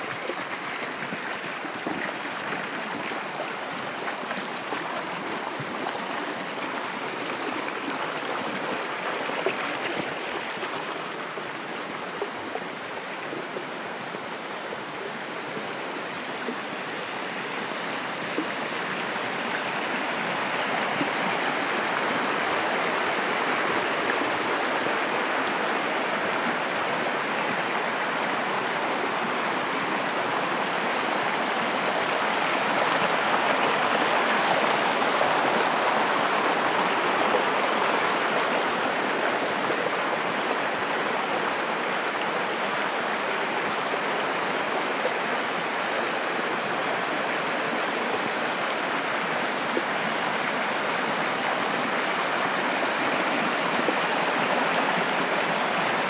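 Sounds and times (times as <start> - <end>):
mountain stream flowing: 0.0 - 56.0.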